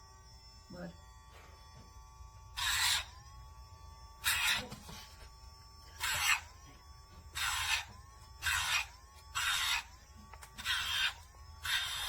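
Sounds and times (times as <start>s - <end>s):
grinder motor whine: 0.0s - 12.0s
nail grinder grinding: 2.3s - 12.0s.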